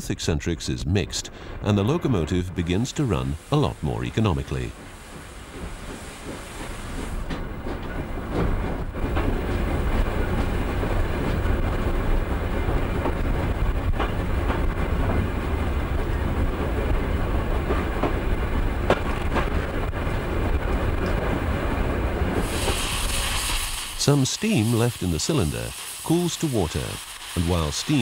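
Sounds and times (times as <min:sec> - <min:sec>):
steam locomotive wheels clattering: 0:02.7 - 0:28.0.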